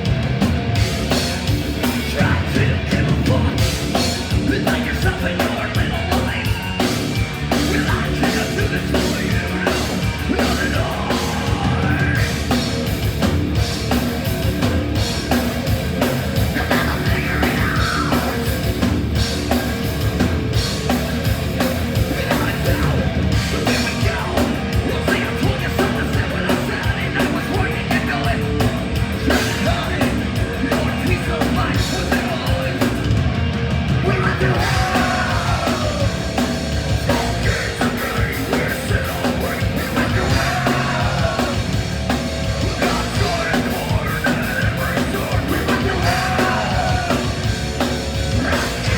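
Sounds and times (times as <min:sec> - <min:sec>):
distorted electric guitars: 0:00.0 - 0:48.9
fast drum kit: 0:00.0 - 0:48.9
yelled vocals: 0:00.0 - 0:48.9.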